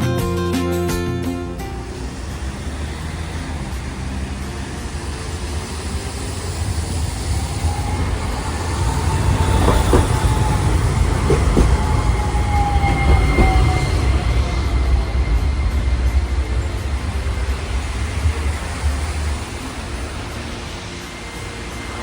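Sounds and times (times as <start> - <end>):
streetcar rumble and whine: 0.0 - 22.0
wheels clacking over rail joints: 0.2 - 22.0.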